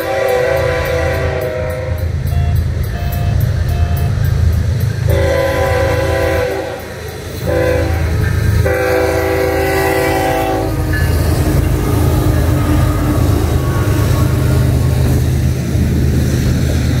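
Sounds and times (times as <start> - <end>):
locomotive horn blasts: 0.0 - 4.2, 5.1 - 15.1.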